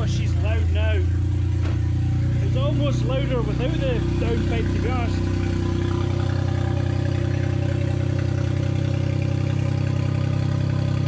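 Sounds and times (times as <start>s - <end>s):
loud car engine idling: 0.0s - 11.0s.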